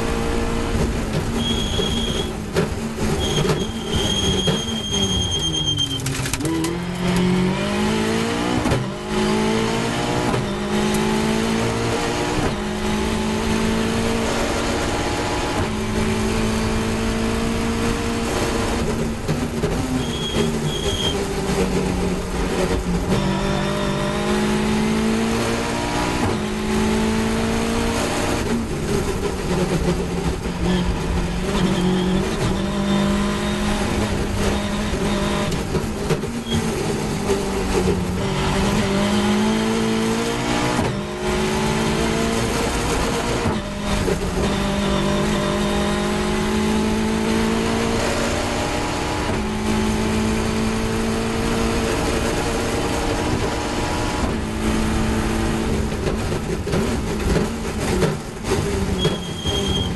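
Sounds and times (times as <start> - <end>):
racing car engine: 0.0 - 59.9.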